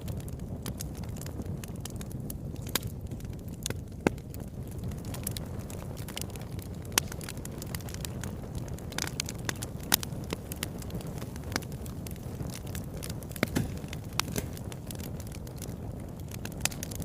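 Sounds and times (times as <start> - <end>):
fire popping and crackling: 0.0 - 17.0
fire rumbling: 0.0 - 17.0.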